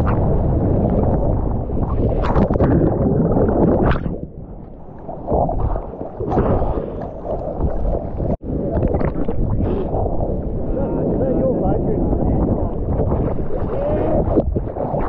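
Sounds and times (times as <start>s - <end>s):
ocean water rushing and splashing: 0.0s - 15.0s
wind buffeting microphone: 0.0s - 15.0s.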